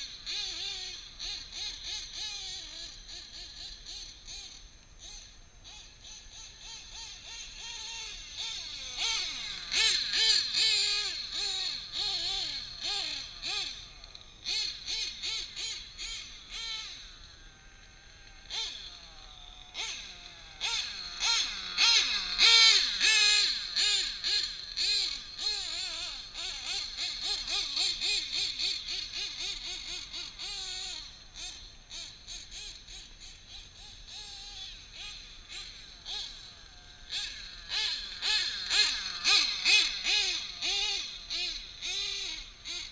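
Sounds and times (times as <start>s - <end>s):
nitro model engine revving: 0.0s - 42.9s.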